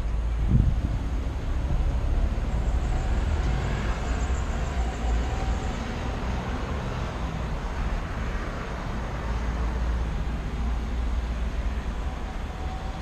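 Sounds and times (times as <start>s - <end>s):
vehicle rumble with road noise: 0.0s - 13.0s.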